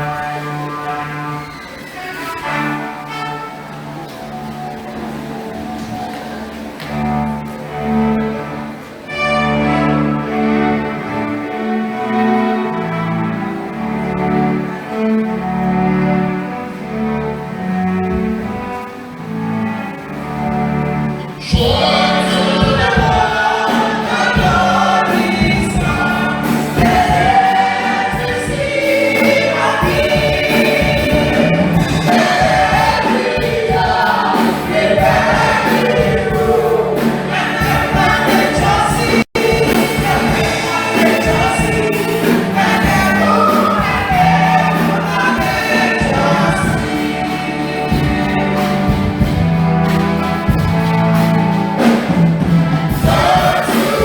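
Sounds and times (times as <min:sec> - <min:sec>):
choir singing a carol: 0:00.0 - 0:54.0
instrumental accompaniment: 0:00.0 - 0:54.0.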